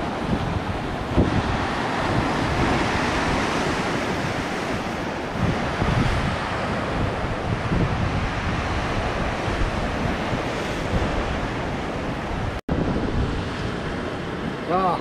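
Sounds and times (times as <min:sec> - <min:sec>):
ocean surf breaking on rocks: 0:00.0 - 0:15.0
wind buffeting microphone: 0:00.0 - 0:15.0.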